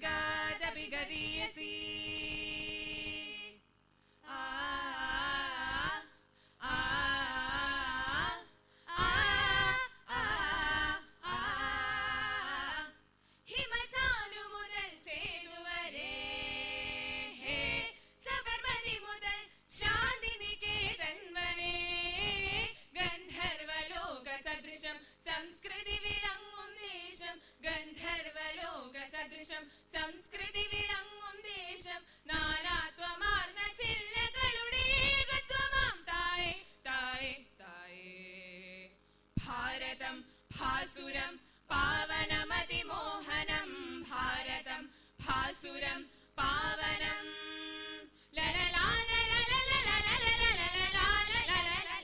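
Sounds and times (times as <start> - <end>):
girls singing in unison: 0.0 - 3.6, 4.3 - 37.4, 39.4 - 52.0.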